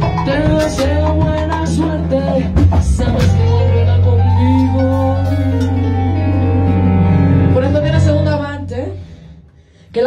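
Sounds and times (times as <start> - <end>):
woman singing lead vocal: 0.0 - 9.2
bass line: 0.0 - 10.0
timbales and drum kit: 0.0 - 10.0.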